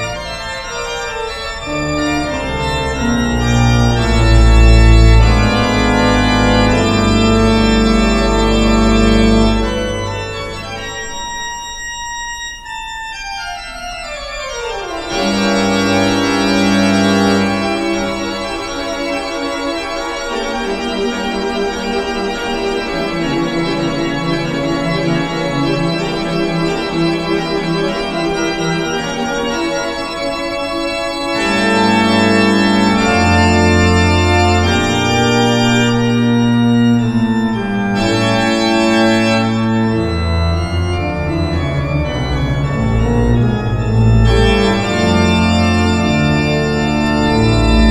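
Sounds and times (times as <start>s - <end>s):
pipe organ chords: 0.0s - 47.9s.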